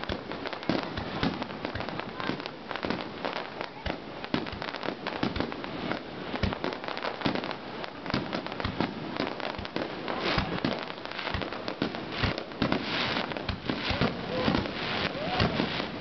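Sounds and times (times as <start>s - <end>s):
crackling of firework stars: 0.0s - 16.0s
firework shells bursting: 0.0s - 16.0s.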